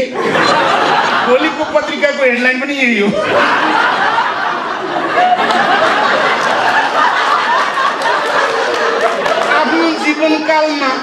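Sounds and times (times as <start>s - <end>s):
audience laughing and chattering: 0.0s - 11.0s.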